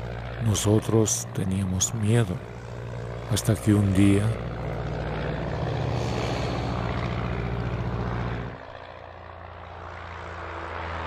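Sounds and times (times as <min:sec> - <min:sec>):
propeller plane droning: 0:00.0 - 0:11.0.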